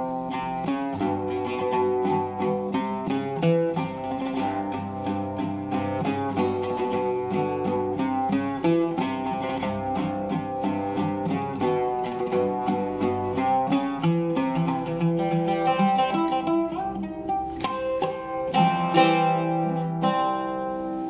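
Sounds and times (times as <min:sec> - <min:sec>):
oud plucked melody: 0:00.0 - 0:21.0.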